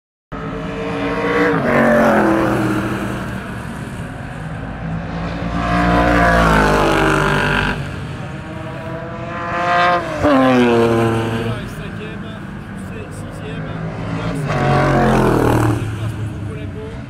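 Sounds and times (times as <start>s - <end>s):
racing cars passing at speed: 0.4s - 17.0s.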